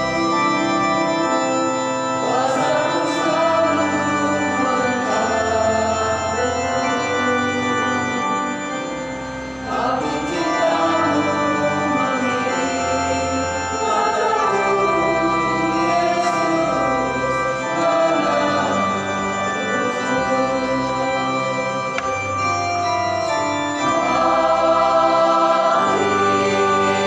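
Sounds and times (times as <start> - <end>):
choir singing a hymn: 0.0 - 27.0
organ chords: 0.0 - 27.0.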